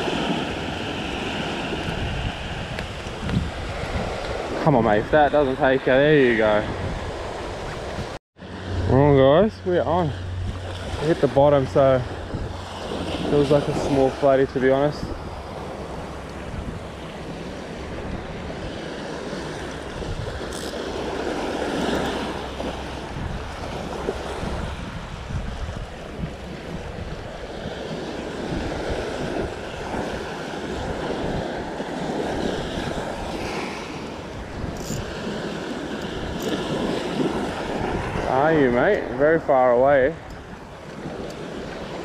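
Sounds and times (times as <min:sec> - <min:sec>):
small waves washing on beach: 0:00.0 - 0:42.0
wind buffeting microphone: 0:00.0 - 0:42.0.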